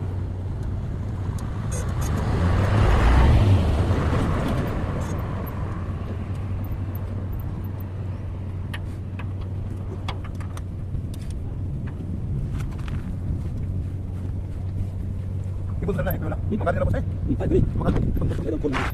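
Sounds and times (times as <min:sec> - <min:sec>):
low engine hum: 0:00.0 - 0:18.9
motor vehicle passing: 0:00.0 - 0:18.9.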